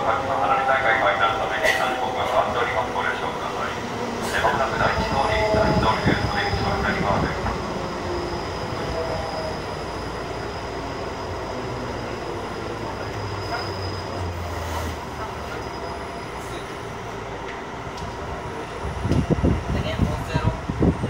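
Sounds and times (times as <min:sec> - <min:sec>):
train wheel and running noise: 0:00.0 - 0:21.0.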